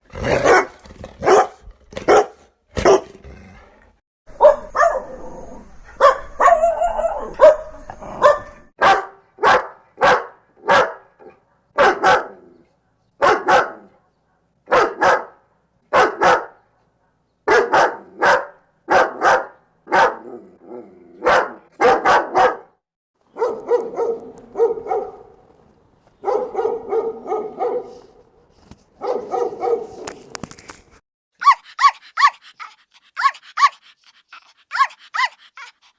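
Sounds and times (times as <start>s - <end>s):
dogs barking angrily: 0.0s - 3.3s, 4.4s - 5.2s, 6.0s - 12.6s, 13.2s - 14.0s, 14.6s - 16.6s, 17.4s - 30.6s, 31.4s - 35.9s.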